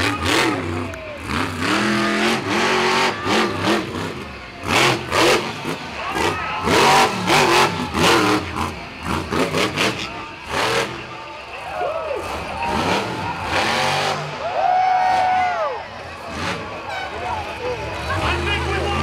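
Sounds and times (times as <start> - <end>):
truck engine revving hard: 0.0 - 15.4, 16.0 - 19.0.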